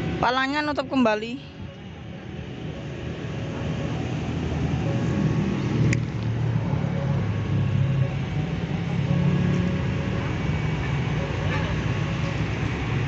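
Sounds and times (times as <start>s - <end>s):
engine rumble: 0.0s - 13.0s.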